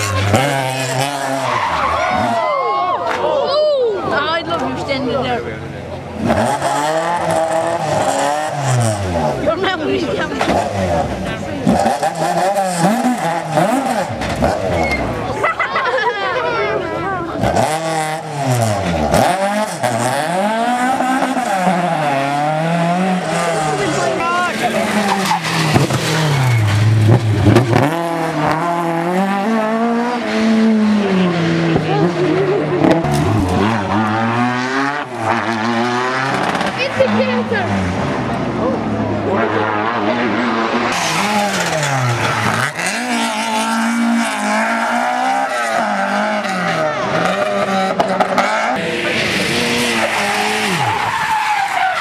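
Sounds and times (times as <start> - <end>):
rally car engine revving: 0.0 - 2.5, 4.0 - 52.0.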